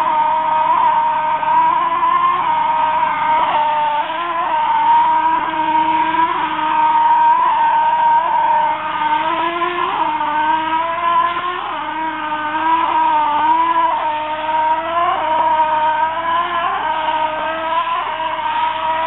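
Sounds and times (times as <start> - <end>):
spraying rig motor whining: 0.0 - 19.0.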